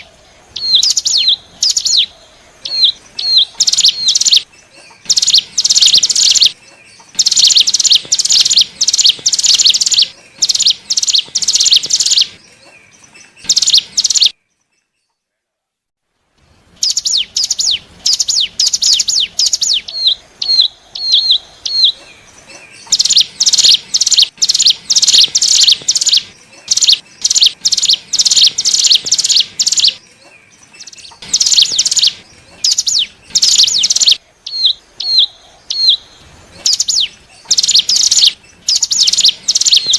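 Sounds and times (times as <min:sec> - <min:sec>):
bird high chirps: 0:00.0 - 0:15.3, 0:16.4 - 0:39.9.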